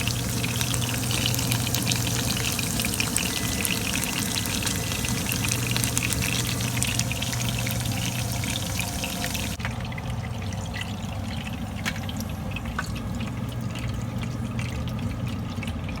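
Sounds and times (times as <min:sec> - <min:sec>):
hot oil sizzling and crackling: 0:00.0 - 0:15.3
steady low hum: 0:00.0 - 0:15.9.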